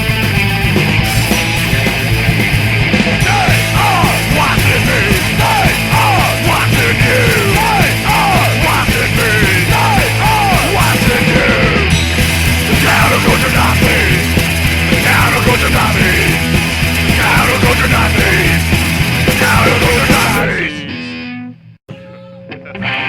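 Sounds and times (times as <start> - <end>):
yelled vocals: 0.0 - 21.0
punk rock song: 0.0 - 21.6.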